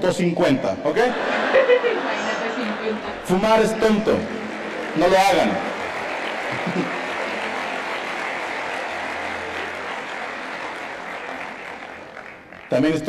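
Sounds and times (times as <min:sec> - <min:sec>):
audience applauding: 0:01.2 - 0:13.0.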